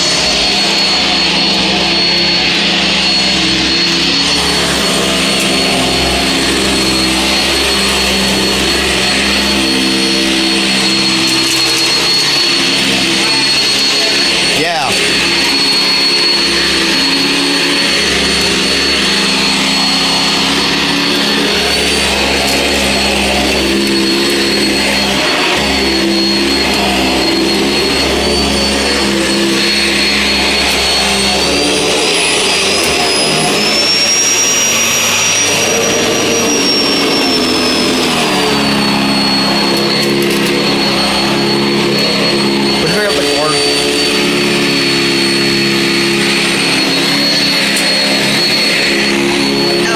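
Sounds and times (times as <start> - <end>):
vacuum cleaner motor whine: 0.0 - 49.9.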